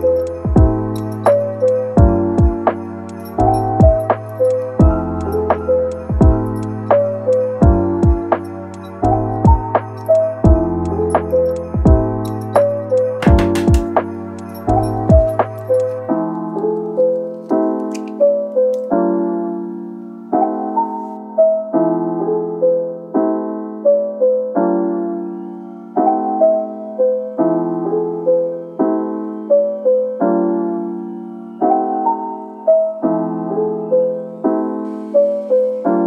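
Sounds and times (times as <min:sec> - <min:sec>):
gentle piano music: 0:00.0 - 0:36.0.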